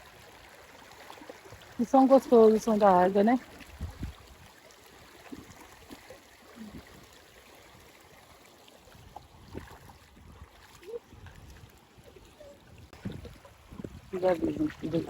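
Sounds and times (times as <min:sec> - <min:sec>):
stream running water: 0:00.0 - 0:15.0.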